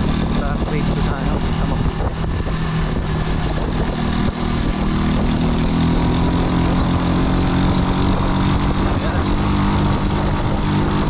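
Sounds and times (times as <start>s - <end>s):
motorcycle engines running: 0.0s - 11.0s
wind and road noise: 0.0s - 11.0s.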